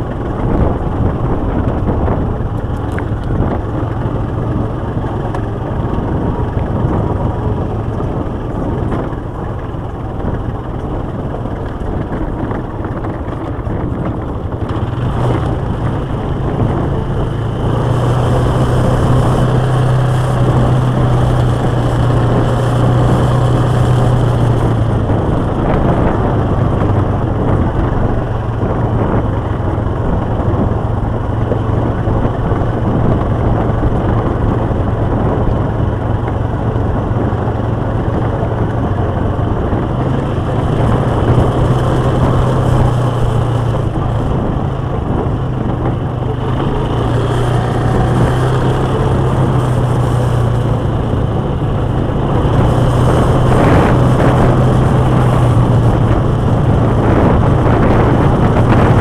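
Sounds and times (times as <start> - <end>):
quad bike engine running: 0.0 - 59.0
wind noise: 0.0 - 59.0.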